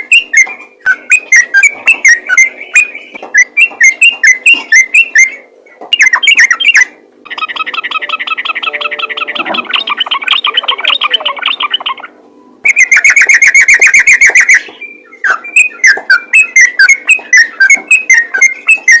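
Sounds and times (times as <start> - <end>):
bulbul singing chattering runs: 0.0 - 19.0.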